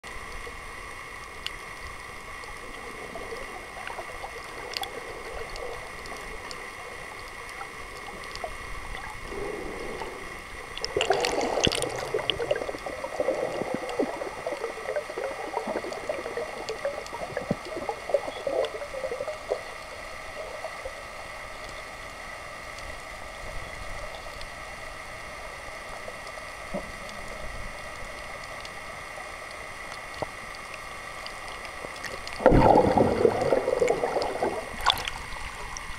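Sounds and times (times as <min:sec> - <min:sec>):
gurgling water: 0:00.0 - 0:22.2, 0:23.0 - 0:35.9
faint hums: 0:00.0 - 0:35.9
underwater hiss: 0:00.4 - 0:23.4, 0:24.6 - 0:35.9.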